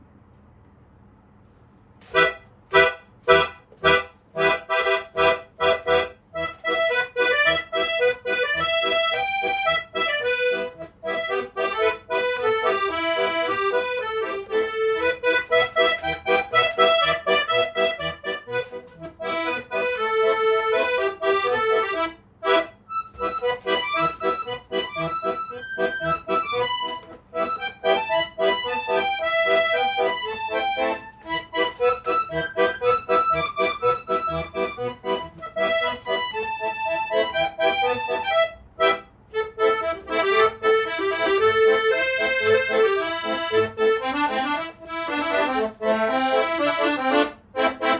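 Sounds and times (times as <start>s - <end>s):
solo accordion playing: 2.0s - 47.9s.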